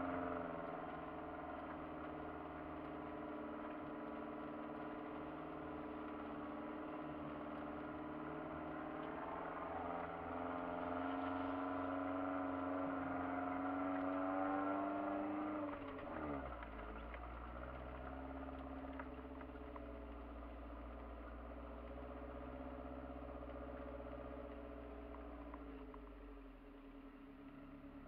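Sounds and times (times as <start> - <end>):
vehicle engine whine and rumble: 0.0 - 28.0.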